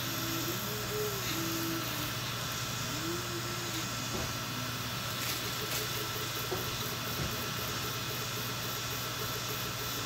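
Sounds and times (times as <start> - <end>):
fans humming and whining: 0.0 - 10.0
stepper motors driving: 0.0 - 10.0.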